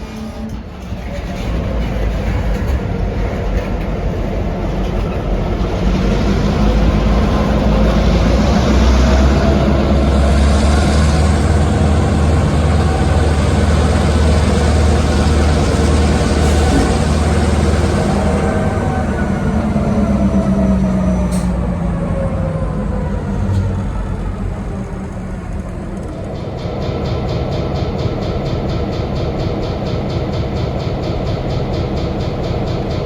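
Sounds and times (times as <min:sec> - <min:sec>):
diesel locomotive engine throbbing: 0:00.0 - 0:33.0.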